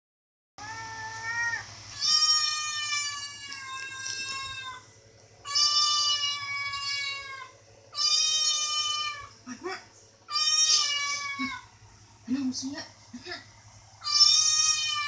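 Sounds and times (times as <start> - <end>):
faint low hum: 0.6 - 15.0.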